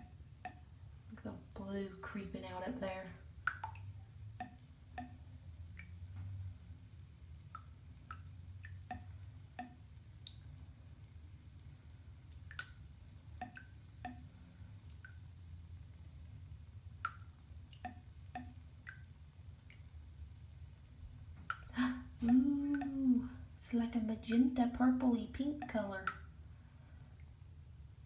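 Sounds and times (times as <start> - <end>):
water drips plinking into bathtub: 0.0 - 6.5, 7.2 - 27.4
low steady hum: 0.0 - 28.0.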